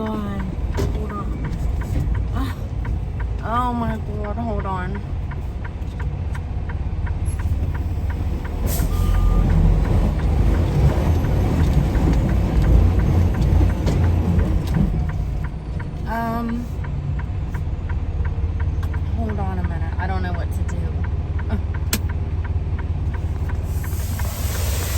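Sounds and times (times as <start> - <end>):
fast steady ticking: 0.0 - 24.3
truck diesel engine under load: 0.0 - 24.9.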